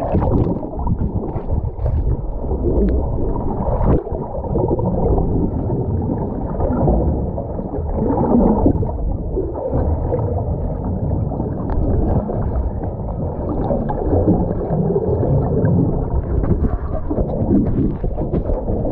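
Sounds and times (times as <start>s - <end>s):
muffled underwater water sloshing: 0.0s - 18.9s.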